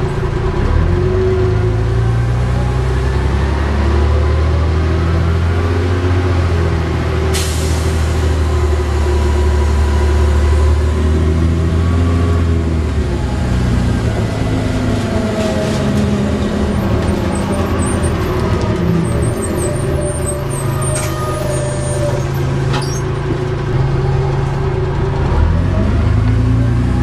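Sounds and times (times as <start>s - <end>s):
bus engine from inside: 0.0s - 27.0s.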